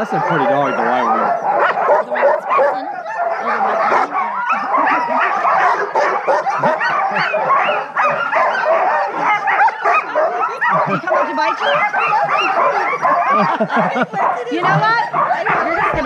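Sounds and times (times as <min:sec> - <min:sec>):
dogs barking and yipping: 0:00.0 - 0:16.0.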